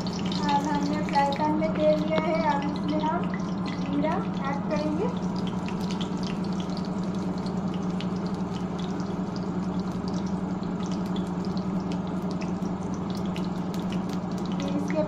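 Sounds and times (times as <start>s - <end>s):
steady low hum: 0.0s - 15.0s
small pops and crackles: 0.2s - 3.9s, 5.0s - 14.9s.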